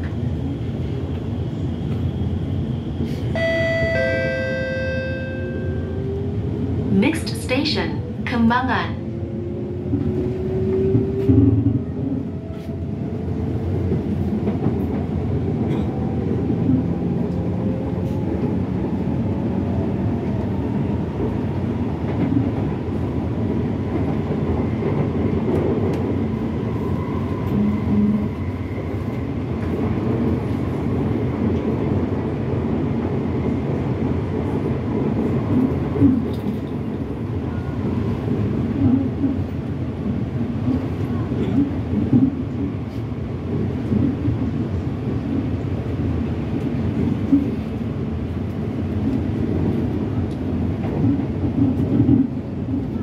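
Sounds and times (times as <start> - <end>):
metro train rumbling: 0.0 - 53.0.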